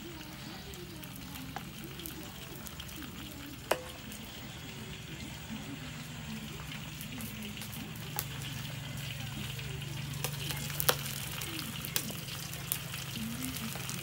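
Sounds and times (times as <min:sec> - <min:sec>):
hot oil sizzling in a wok: 0:00.0 - 0:14.0.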